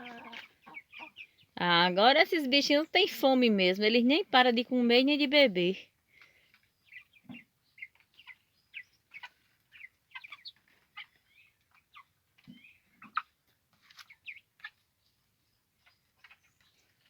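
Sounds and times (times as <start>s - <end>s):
chicks peeping: 0.0s - 5.3s, 5.9s - 17.0s.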